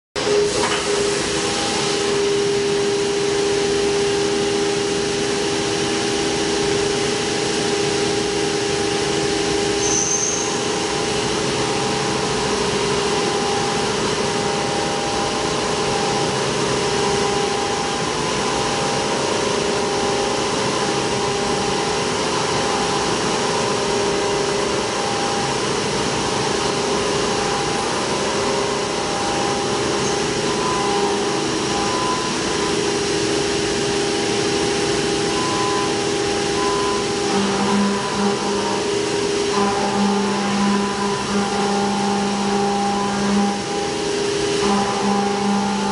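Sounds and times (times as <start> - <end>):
milling machine cutting whine: 0.2 - 45.9.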